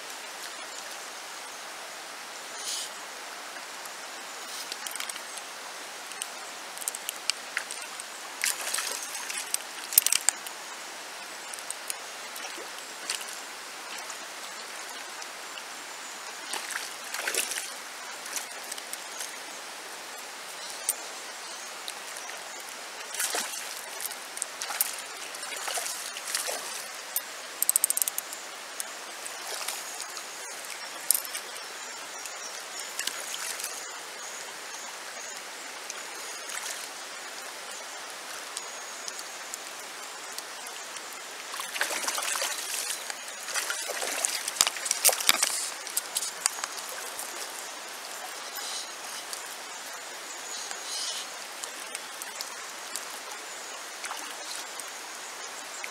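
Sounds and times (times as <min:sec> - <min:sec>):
river flowing over stones: 0:00.0 - 0:55.9
water splashing and gurgling: 0:04.2 - 0:33.9, 0:35.8 - 0:37.0, 0:39.1 - 0:55.9.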